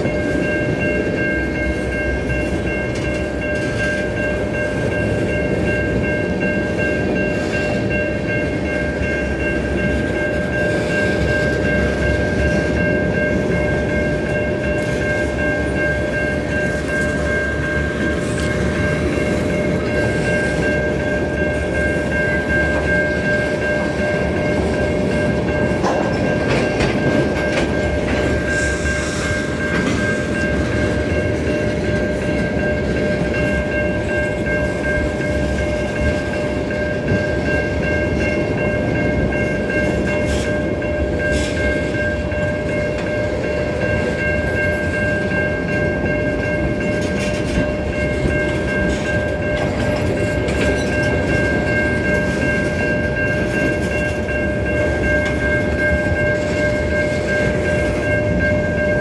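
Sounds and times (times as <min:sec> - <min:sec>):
steady high ringing: 0:00.0 - 0:59.0
train wheels rumbling on rail: 0:00.0 - 0:59.0.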